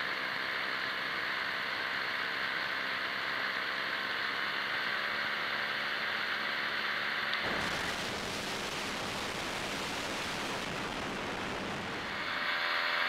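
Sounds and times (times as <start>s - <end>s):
paramotor engine and propeller drone: 0.0s - 13.0s.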